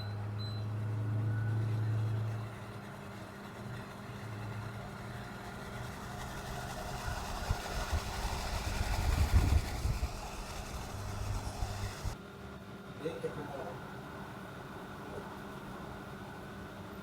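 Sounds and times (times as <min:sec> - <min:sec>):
air conditioner fan humming: 0:01.8 - 0:17.0.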